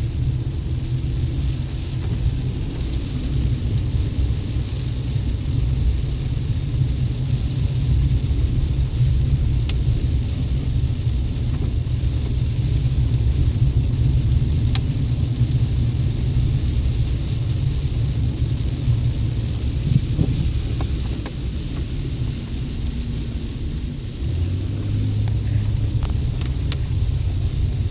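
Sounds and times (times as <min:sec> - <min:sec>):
pickup engine and road rumble: 0:00.0 - 0:27.9.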